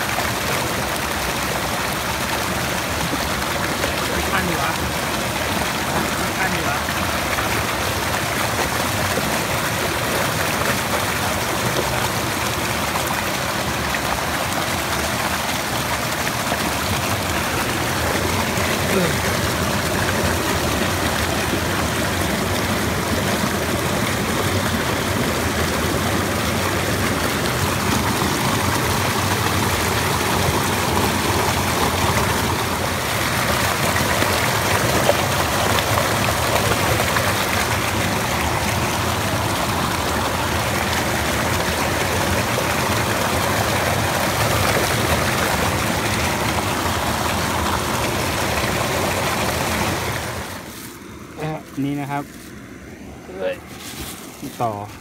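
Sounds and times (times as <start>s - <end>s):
floodwater rushing over weir: 0.0s - 55.0s.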